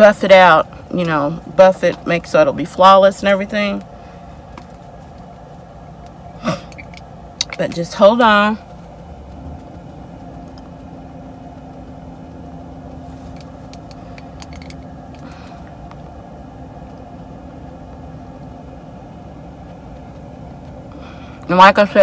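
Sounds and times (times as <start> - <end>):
engine idling hum: 0.0 - 22.0.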